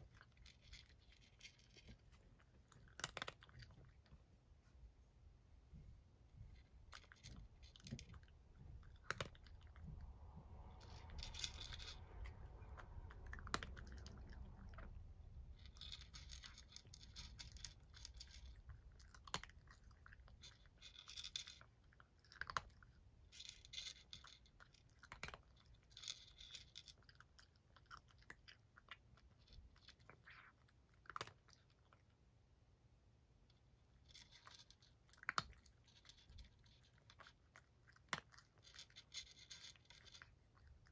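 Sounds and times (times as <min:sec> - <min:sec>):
cat crunching dry kibble: 0:00.0 - 0:04.3, 0:06.6 - 0:32.2, 0:33.9 - 0:40.9.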